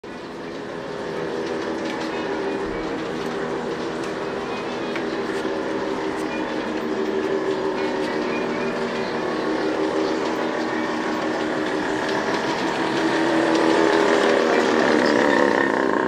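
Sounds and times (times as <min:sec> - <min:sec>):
wheels rumbling on rails: 0:00.0 - 0:16.0
model train motor whine: 0:00.1 - 0:16.0.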